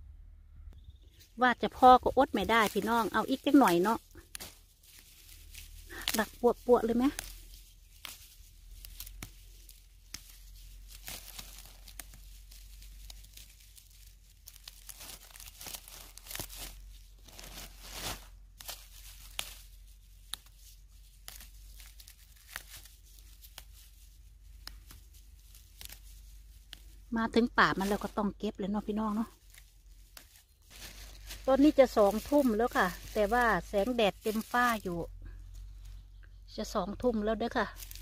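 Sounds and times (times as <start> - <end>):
dry grass rustling: 0.8 - 38.0
fern stems snapping: 1.6 - 38.0
plastic bag crinkling: 1.7 - 28.2, 28.9 - 35.9, 37.7 - 38.0.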